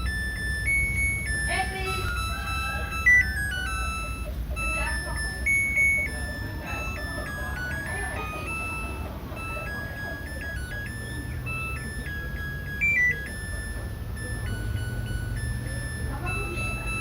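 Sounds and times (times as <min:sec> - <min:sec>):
electronic beep tune: 0:00.0 - 0:17.0
washing machine humming: 0:00.0 - 0:17.0.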